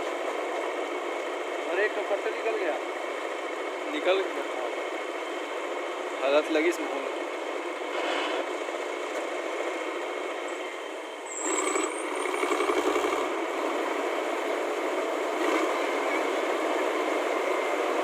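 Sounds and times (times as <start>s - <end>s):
machine engine running with rattle: 0.0s - 18.0s.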